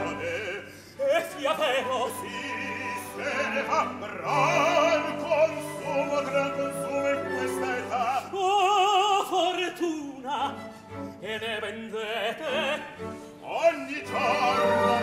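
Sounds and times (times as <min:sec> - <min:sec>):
orchestra playing: 0:00.0 - 0:09.1, 0:10.2 - 0:15.0
men singing opera: 0:00.0 - 0:10.6, 0:11.2 - 0:15.0.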